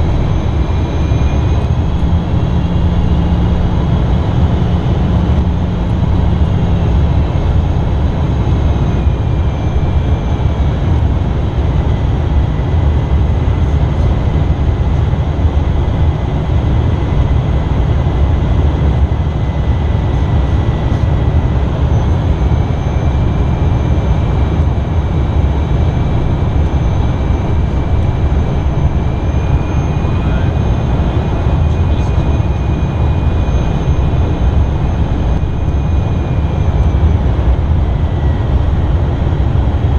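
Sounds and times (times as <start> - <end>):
high turbofan whine: 0.0 - 39.9
jet cabin airflow and engine drone: 0.0 - 39.9.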